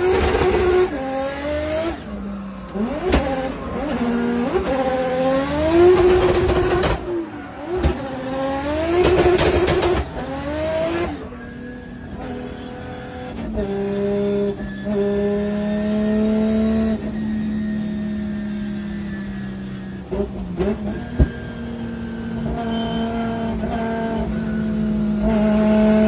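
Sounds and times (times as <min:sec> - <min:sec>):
car engines at high revs: 0:00.0 - 0:26.0.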